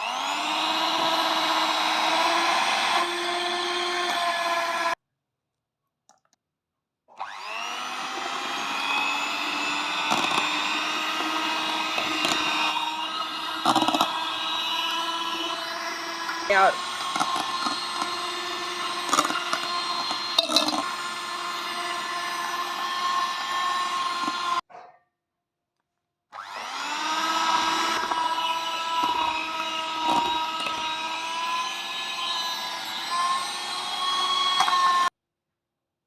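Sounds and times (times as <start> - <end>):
hand blender motor whining: 0.0 - 5.0, 7.1 - 24.6, 26.4 - 35.1.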